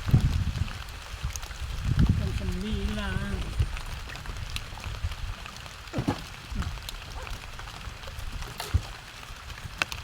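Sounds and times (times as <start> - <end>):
rain falling: 0.0 - 10.0
ticks of raindrops: 0.0 - 10.0.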